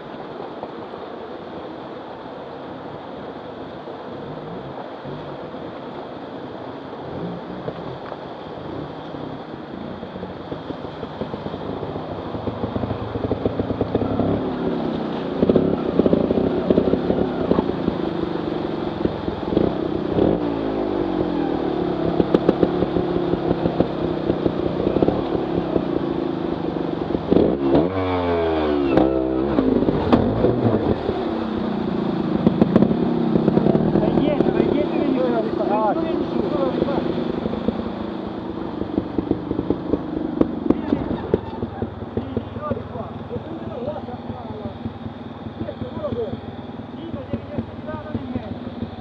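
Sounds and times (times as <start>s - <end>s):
stream rushing over rocks: 0.0s - 49.0s
motorcycle engine revving: 4.0s - 49.0s.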